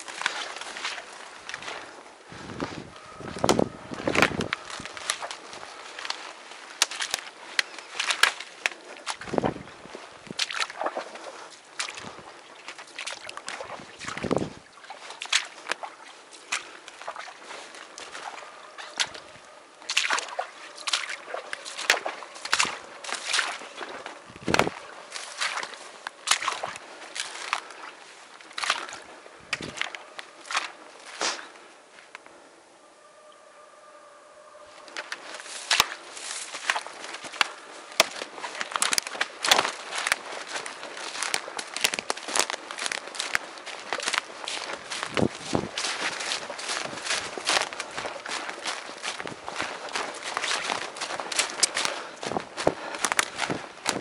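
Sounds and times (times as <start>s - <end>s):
footsteps squelching through mud: 0.0s - 32.4s, 34.6s - 54.0s.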